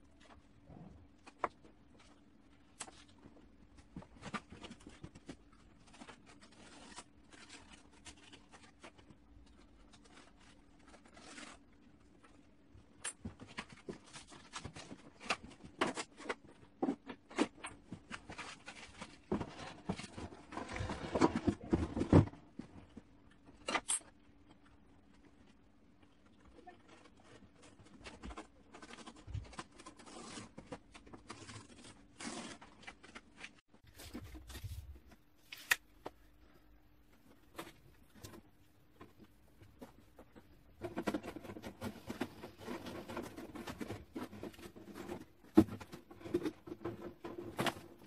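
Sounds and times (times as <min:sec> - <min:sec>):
rustling and scraping: 0:00.0 - 0:12.5, 0:13.1 - 0:23.8, 0:24.4 - 0:48.0.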